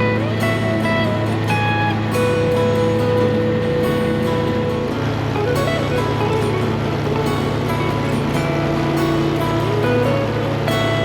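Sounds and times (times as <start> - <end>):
held notes changing pitch: 0.0 - 11.0
steady low drone: 0.0 - 11.0.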